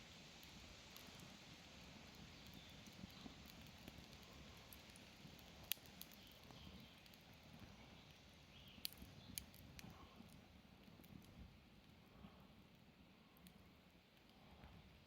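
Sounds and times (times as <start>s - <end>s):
campfire crackling: 0.0s - 15.0s
soft low hiss: 0.0s - 15.0s.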